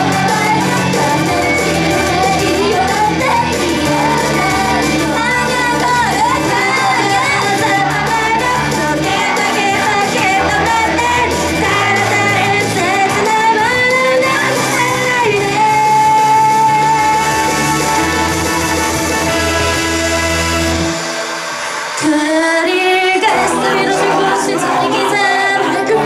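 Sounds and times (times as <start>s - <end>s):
group singing a pop song: 0.0s - 26.0s
pop music: 0.0s - 26.0s.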